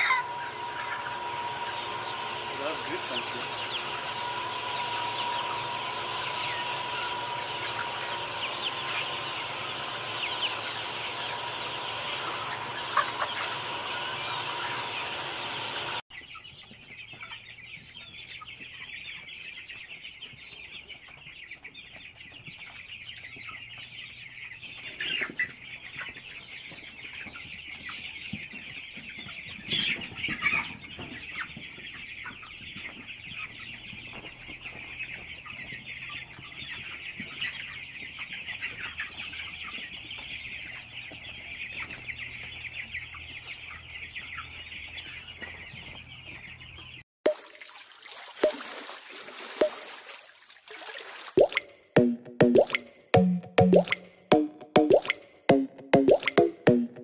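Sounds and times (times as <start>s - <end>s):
hens clucking: 0.0s - 47.0s.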